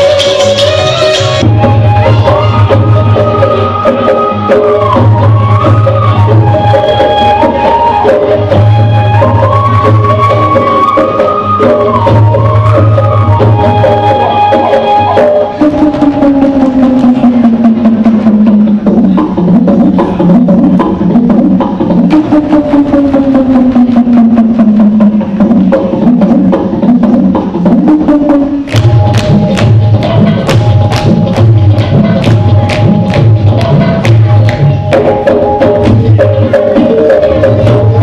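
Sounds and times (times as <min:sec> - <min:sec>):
clicking hand percussion: 0:00.0 - 0:38.0
folk dance music: 0:00.0 - 0:38.0.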